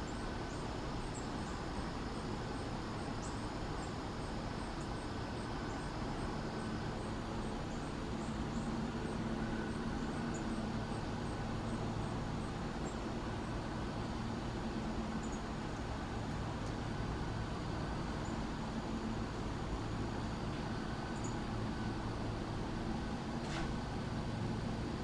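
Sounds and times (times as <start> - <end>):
low outdoor hum: 0.0 - 25.0.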